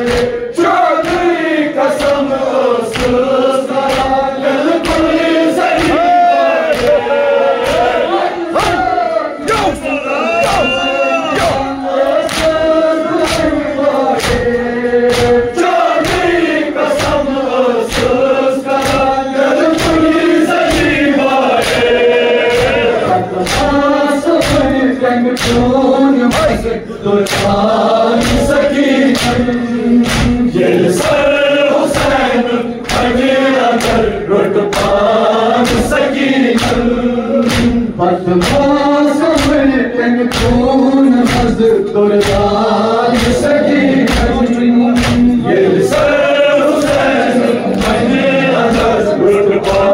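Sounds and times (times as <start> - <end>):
hands slapping chests: 0.0 - 7.0, 11.3 - 23.8, 24.4 - 31.2, 31.9 - 34.1, 35.6 - 39.7, 40.3 - 41.6, 42.2 - 49.9
men chanting together: 0.0 - 49.9.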